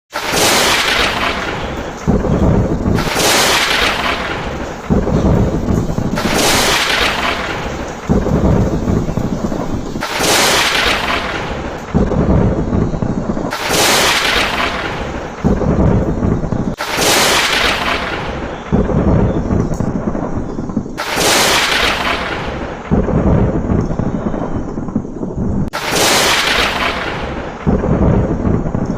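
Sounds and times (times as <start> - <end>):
rain hiss: 0.1 - 28.9
thunder cracking and rumbling: 0.1 - 28.9.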